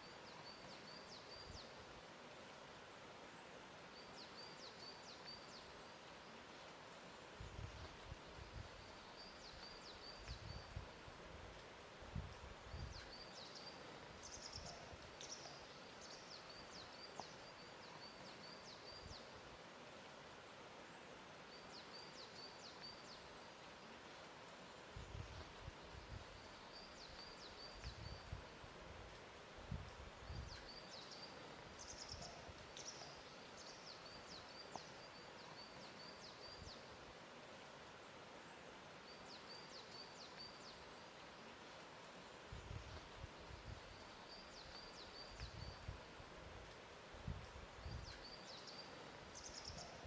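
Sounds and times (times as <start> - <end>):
soft wash of water: 0.0 - 50.0
songbird chirping: 0.0 - 50.0.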